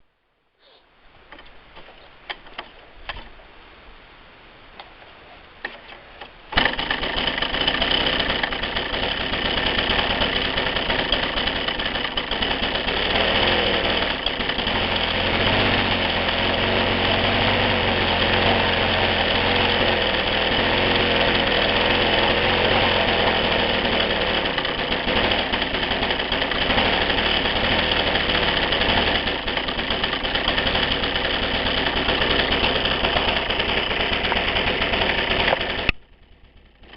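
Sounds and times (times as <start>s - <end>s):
petrol engine running: 6.6s - 36.9s.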